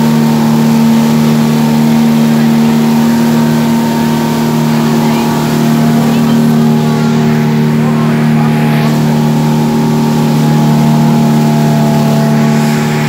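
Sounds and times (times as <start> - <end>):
boat engine droning: 0.0 - 13.0
rushing wind and water: 0.0 - 13.0.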